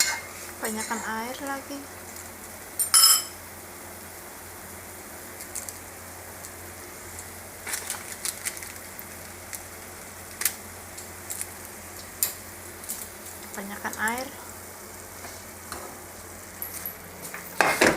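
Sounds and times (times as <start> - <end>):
noodles sizzling in a pan: 0.0 - 17.9.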